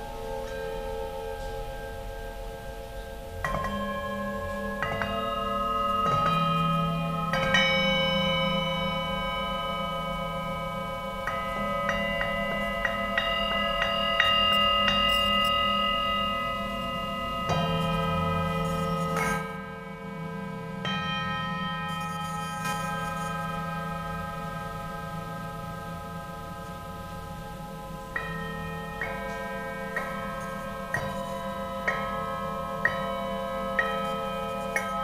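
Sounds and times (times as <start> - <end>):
singing bowls struck with mallets: 0.0 - 35.0.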